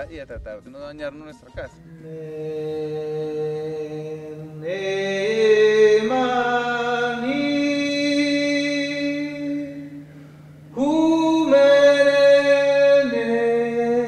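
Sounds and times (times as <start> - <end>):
steady low drone: 1.6 - 14.0
slow chanting: 1.8 - 14.0.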